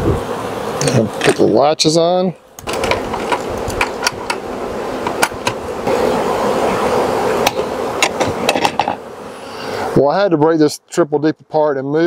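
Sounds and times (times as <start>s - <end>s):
honeybees humming: 0.0s - 11.1s.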